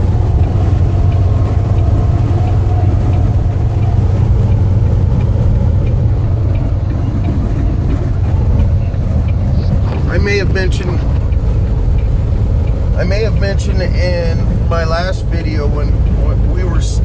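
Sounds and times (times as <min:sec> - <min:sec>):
road noise: 0:00.0 - 0:17.0
truck engine rumble: 0:00.0 - 0:17.0.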